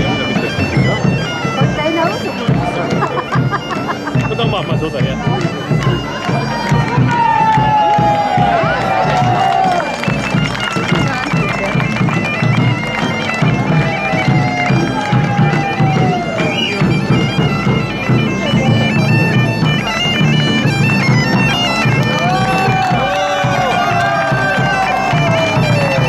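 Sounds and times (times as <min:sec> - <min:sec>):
bagpipes playing a melody: 0:00.0 - 0:26.0.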